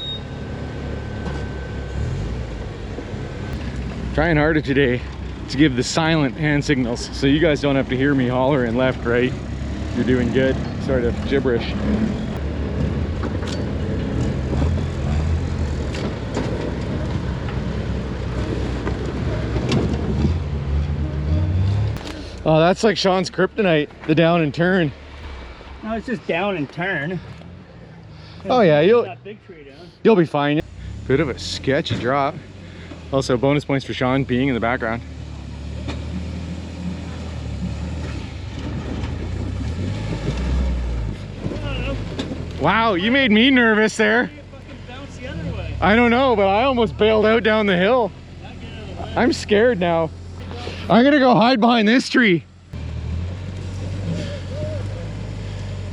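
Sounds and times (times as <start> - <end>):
engine running at low revs: 0.0 - 29.4, 30.6 - 51.1, 52.4 - 55.9.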